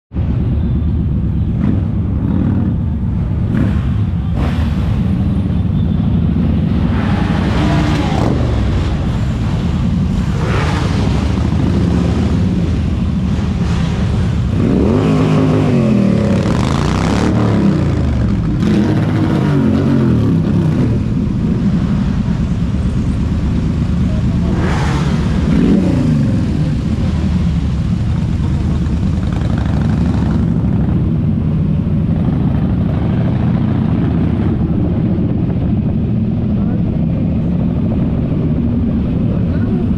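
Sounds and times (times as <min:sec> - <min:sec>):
motorcycle engine revving: 0:01.5 - 0:36.7.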